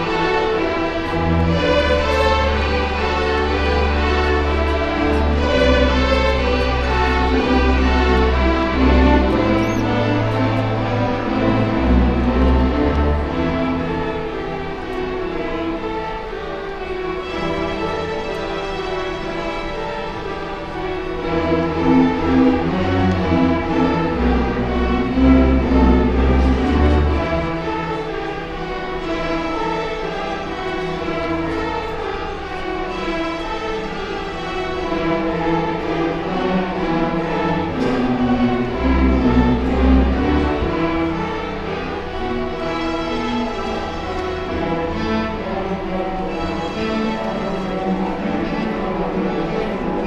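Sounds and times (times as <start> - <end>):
heavy low string notes: 0.0 - 50.0
string orchestra playing: 0.0 - 50.0.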